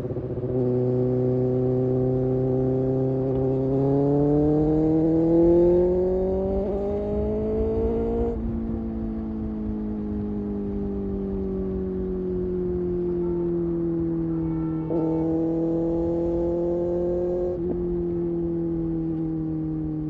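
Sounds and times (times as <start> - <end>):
motorcycle engine revving: 0.0 - 20.0
wind and road noise: 0.0 - 20.0.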